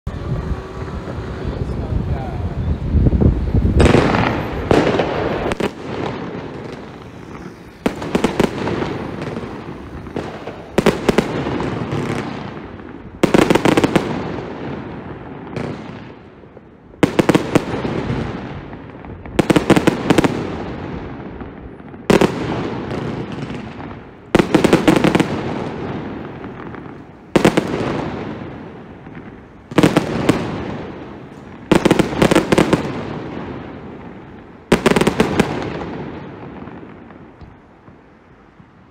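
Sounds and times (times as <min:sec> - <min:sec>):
firework volleys of sharp reports: 0:00.1 - 0:38.9.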